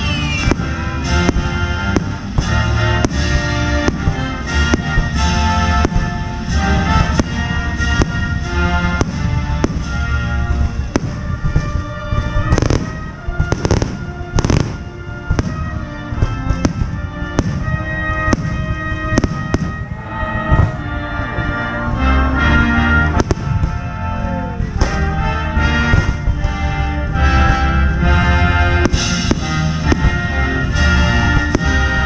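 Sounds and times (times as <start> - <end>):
fireworks booming and cracking: 0.0 - 32.0
music playing: 0.0 - 32.0.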